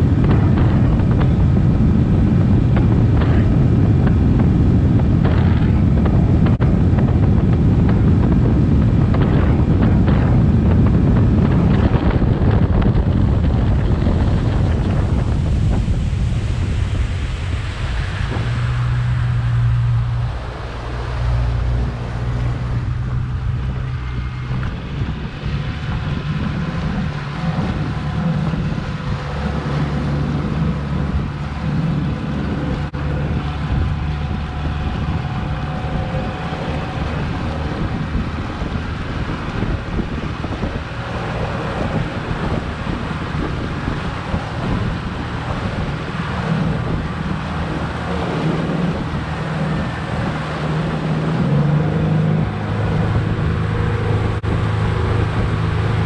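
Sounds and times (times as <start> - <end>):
outboard motor running: 0.0 - 56.0
rushing water: 0.0 - 56.0
wind buffeting microphone: 0.0 - 56.0.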